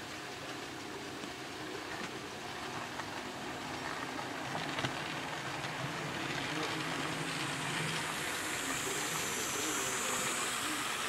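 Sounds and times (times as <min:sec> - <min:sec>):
model train rolling and humming: 0:00.0 - 0:11.0.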